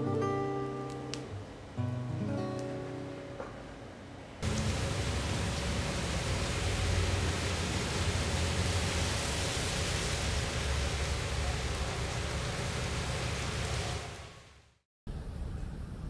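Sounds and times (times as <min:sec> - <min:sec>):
rushing outdoor ambient noise: 0:00.0 - 0:16.0.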